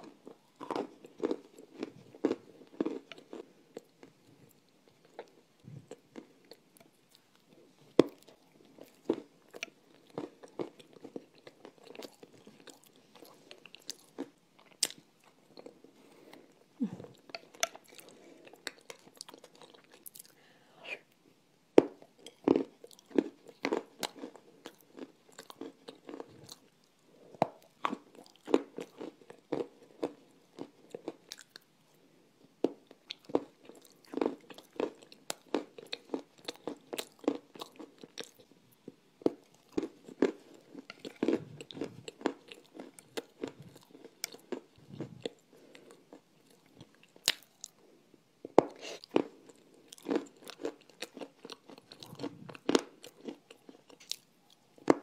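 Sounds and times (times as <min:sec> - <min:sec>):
crunchy clay chewing: 0:00.0 - 0:20.4, 0:21.9 - 0:31.7, 0:32.6 - 0:55.0.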